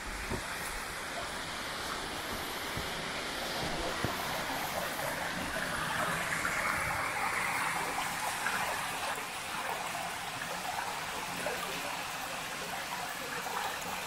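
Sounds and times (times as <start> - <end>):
creek water rippling over rocks: 0.0 - 14.0.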